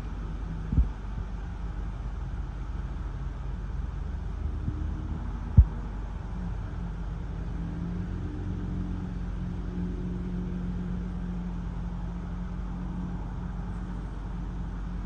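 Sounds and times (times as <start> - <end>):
vehicle rumble and hum: 0.0 - 15.0.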